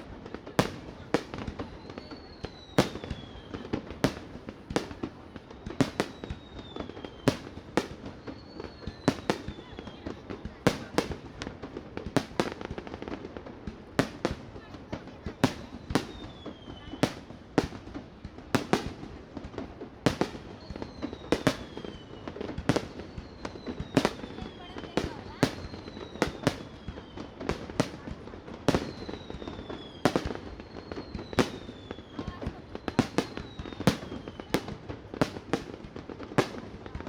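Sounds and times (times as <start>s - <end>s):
firework crackles: 0.0s - 37.0s.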